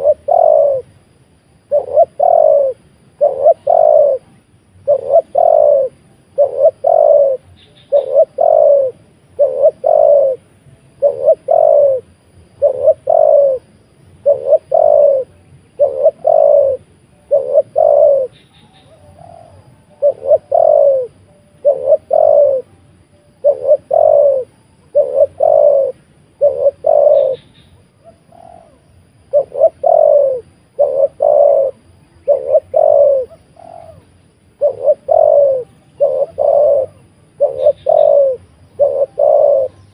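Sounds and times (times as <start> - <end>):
dove cooing: 0.0 - 1.0, 1.6 - 39.9.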